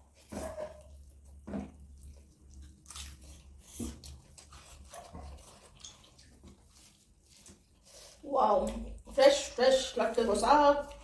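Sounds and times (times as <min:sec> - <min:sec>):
chewing and mouth noises: 0:00.0 - 0:09.4.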